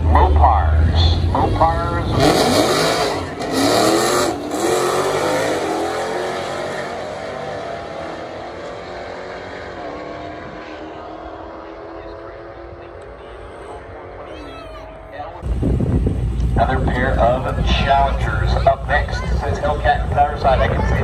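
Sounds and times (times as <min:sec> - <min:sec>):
racing car engine at full throttle: 0:00.0 - 0:21.0.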